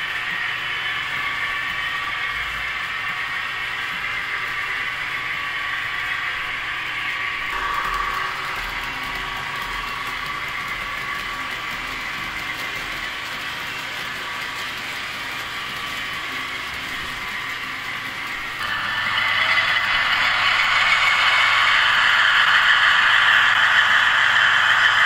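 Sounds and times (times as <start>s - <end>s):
model train whirring and rolling: 0.0s - 25.0s.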